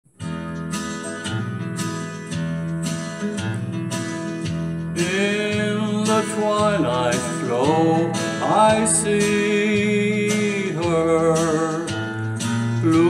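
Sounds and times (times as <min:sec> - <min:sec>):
acoustic guitar strumming: 0:00.1 - 0:13.0.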